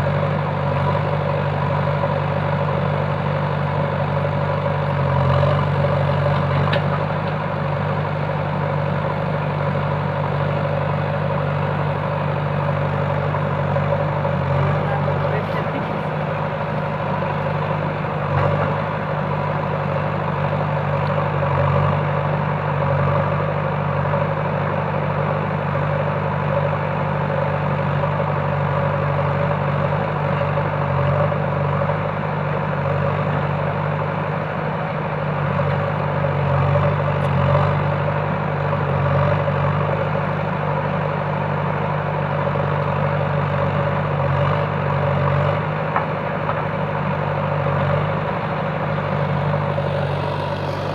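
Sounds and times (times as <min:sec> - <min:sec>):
diesel engine running steadily: 0:00.0 - 0:50.9.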